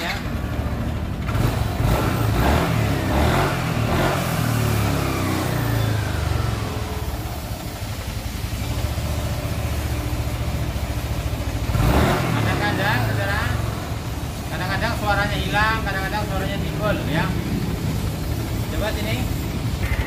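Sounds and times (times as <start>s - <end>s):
scooter engine revving: 0.0s - 20.0s.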